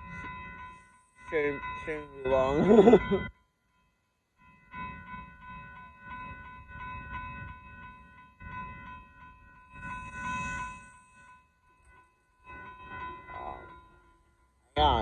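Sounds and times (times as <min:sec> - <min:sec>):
crossing warning bell ringing: 0:00.0 - 0:15.0.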